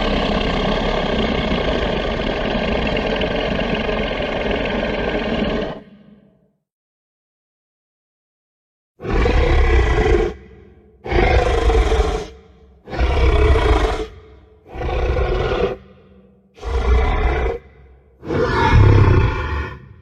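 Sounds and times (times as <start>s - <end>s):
deep monster roar: 0.0s - 6.3s, 9.0s - 20.0s.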